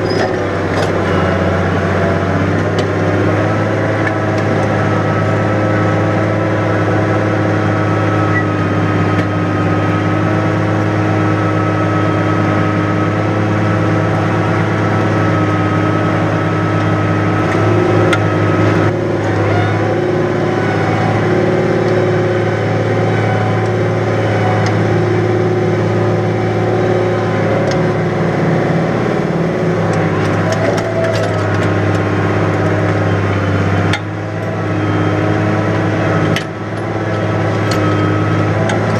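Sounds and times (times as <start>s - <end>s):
tractor diesel engine under load: 0.0s - 38.9s.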